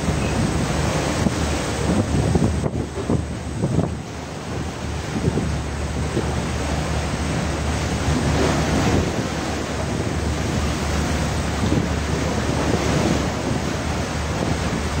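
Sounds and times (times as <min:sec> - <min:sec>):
water sloshing across a deck: 0:00.0 - 0:15.0.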